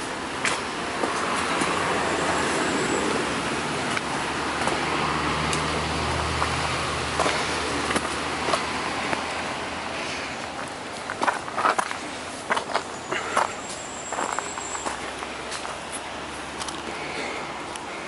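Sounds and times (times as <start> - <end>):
low motor vehicle hum: 0.0 - 18.0.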